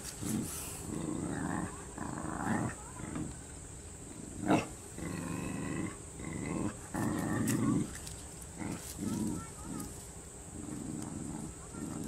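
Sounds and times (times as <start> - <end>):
dog growling: 0.2 - 3.5, 4.1 - 9.9, 10.6 - 12.0.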